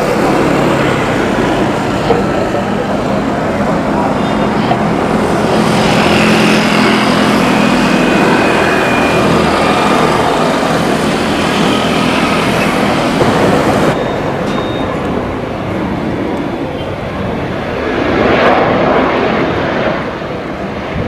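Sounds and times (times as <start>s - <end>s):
jet engines roaring with high whine: 0.0s - 21.0s.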